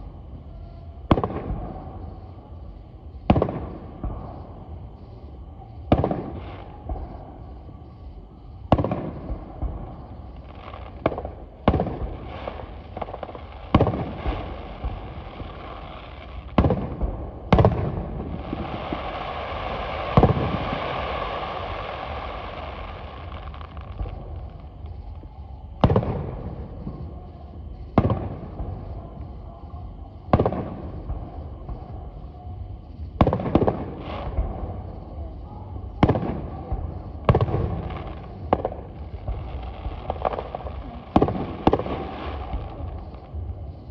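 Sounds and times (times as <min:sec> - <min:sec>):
firework booms: 0:00.0 - 0:43.9
steady hiss: 0:00.0 - 0:43.9.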